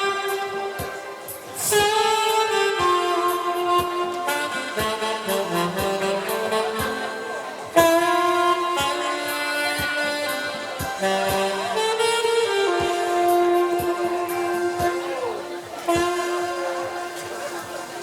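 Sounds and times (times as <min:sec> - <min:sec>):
backing track with steady beat: 0:00.0 - 0:18.0
brass horn melody: 0:00.0 - 0:18.0.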